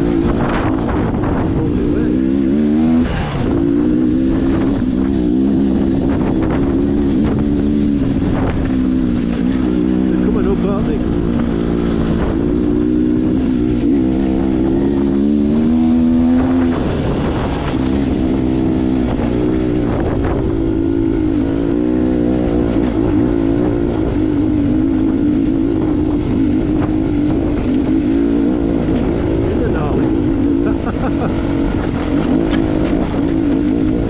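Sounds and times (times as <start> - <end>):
steady humming drone: 0.0 - 34.0
wind rumbling on microphone: 0.0 - 34.0.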